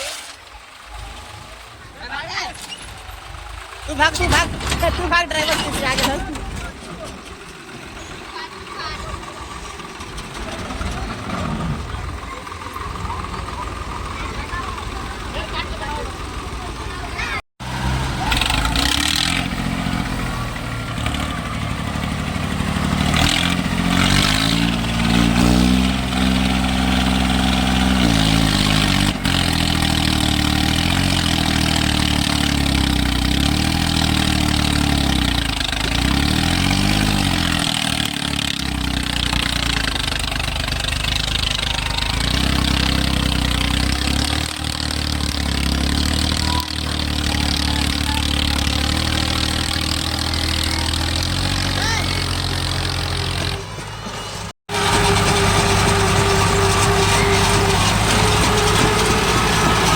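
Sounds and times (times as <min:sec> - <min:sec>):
diesel tractor engines labouring: 0:00.0 - 0:59.9.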